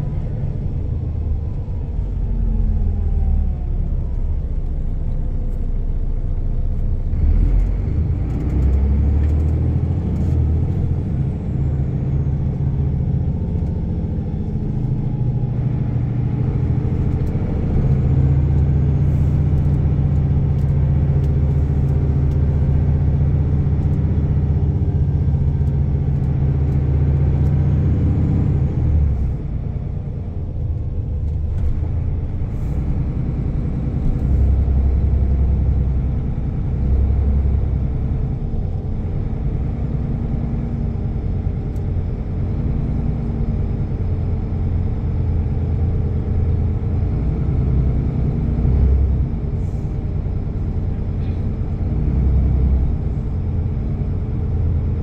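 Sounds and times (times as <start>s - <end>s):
diesel engine drone: 0.0s - 55.0s
road noise: 0.0s - 55.0s.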